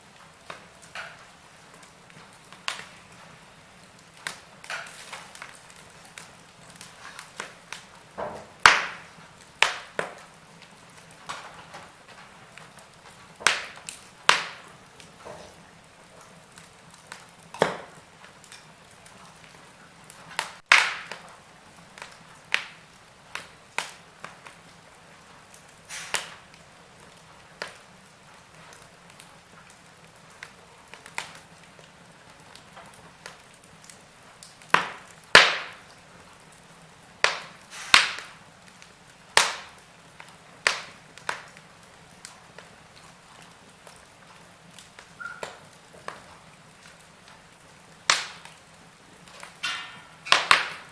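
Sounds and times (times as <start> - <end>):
faint steady hiss: 0.0 - 50.9
wood fire crackling: 0.0 - 50.9.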